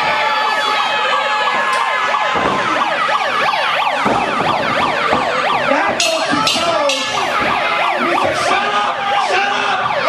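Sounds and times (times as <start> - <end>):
overlapping siren-like wails: 0.0 - 10.0.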